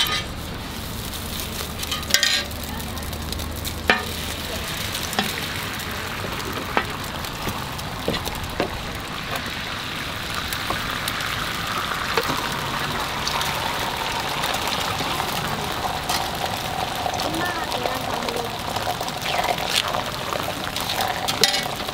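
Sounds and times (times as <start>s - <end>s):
egg sizzling on griddle: 0.0s - 21.9s.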